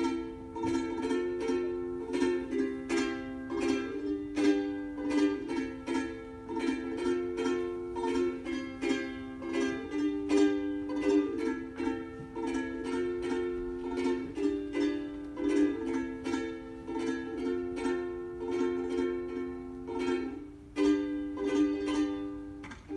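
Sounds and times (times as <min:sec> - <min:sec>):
ukulele strumming chords: 0:00.0 - 0:22.9.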